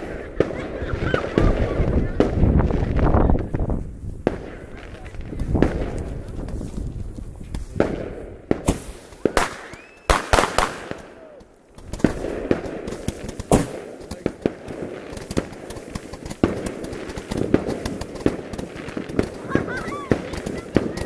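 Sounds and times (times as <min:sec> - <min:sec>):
fireworks crackling pops: 0:00.0 - 0:21.0
fireworks loud sharp bangs: 0:00.0 - 0:21.0.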